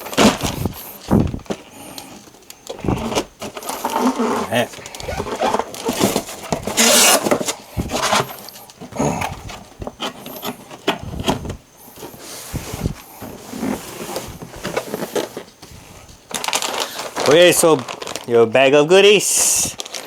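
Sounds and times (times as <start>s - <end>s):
cardboard packaging rustling: 0.0s - 20.0s.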